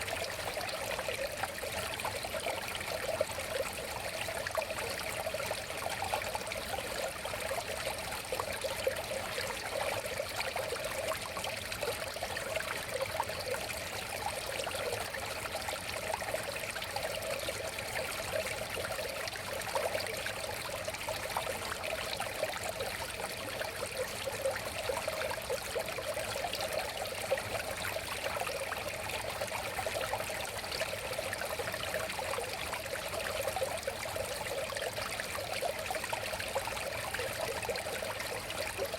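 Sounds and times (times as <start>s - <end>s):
river water flowing over stones: 0.0s - 38.9s.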